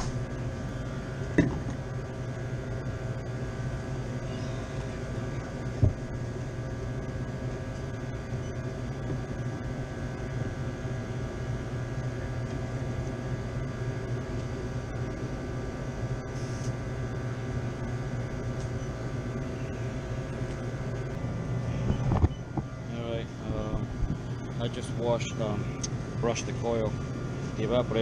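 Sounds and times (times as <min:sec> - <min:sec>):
refrigeration fans humming: 0:00.0 - 0:28.0.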